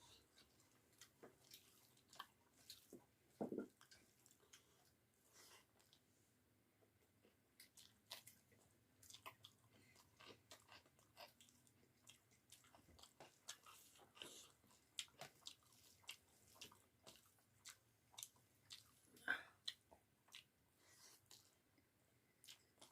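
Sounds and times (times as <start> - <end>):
person chewing food: 0.0 - 6.1, 6.8 - 22.9.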